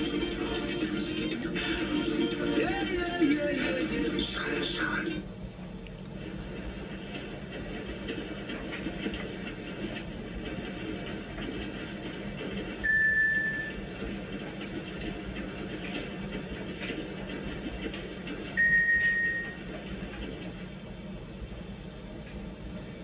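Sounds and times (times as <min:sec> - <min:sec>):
steady hum and hiss: 0:00.0 - 0:23.0.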